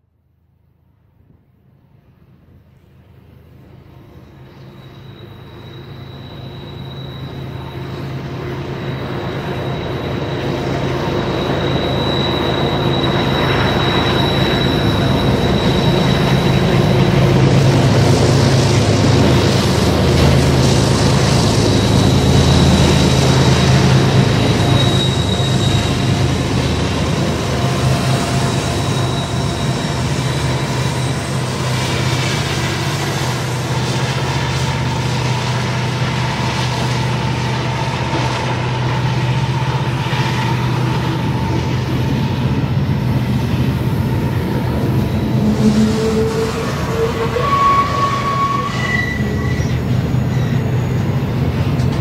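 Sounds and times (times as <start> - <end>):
freight train rolling by: 0.0 - 52.0
high wheel squeal: 4.0 - 52.0.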